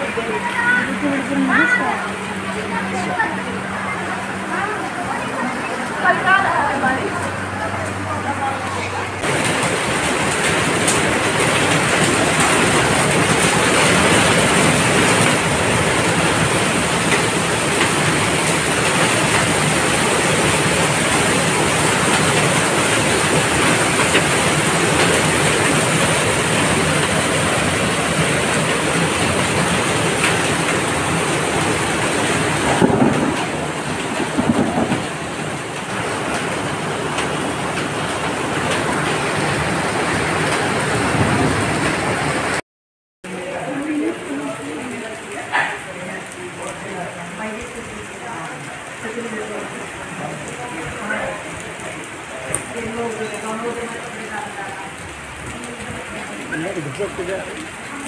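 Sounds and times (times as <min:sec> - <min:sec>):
heavy rain splashing into water: 0:00.0 - 0:42.6, 0:43.3 - 0:58.0.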